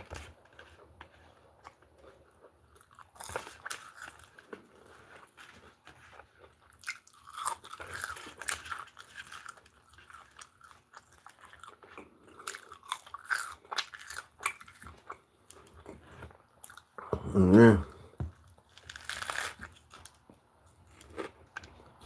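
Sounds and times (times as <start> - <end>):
chewing crunchy fried food: 0.0 - 22.0.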